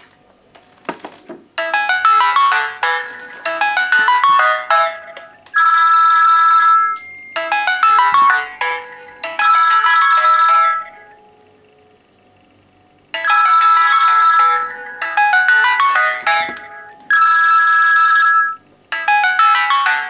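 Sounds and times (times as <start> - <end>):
electronic ringtone melody: 1.6 - 11.4, 13.2 - 20.0.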